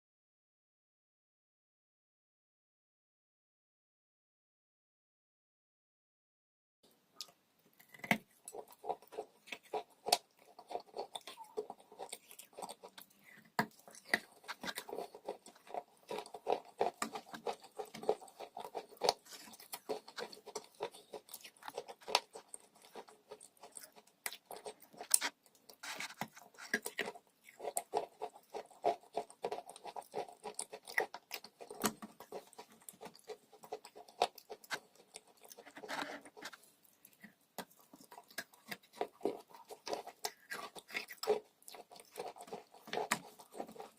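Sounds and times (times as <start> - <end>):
person chewing crunchy chalk: 7.8 - 43.9.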